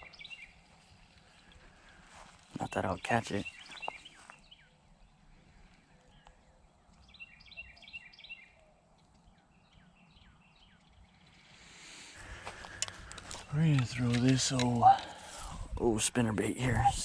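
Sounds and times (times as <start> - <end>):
faint birdsong chirps: 0.0 - 17.0
quiet outdoor background noise: 0.0 - 17.0.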